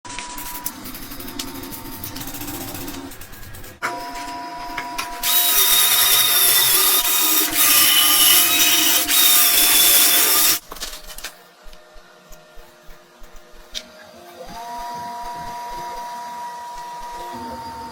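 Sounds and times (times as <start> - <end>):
power tool whirring: 0.1 - 10.7, 11.8 - 17.9.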